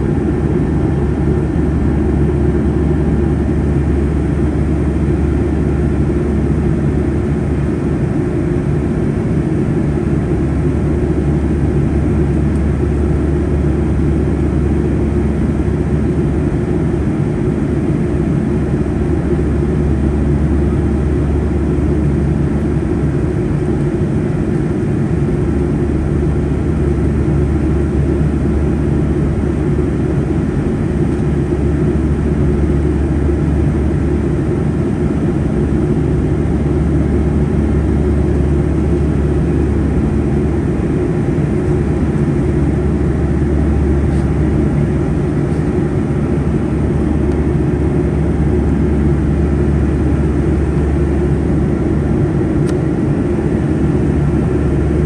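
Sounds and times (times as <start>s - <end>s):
airplane cabin engine drone: 0.0s - 55.0s
low hum tones: 0.0s - 55.0s.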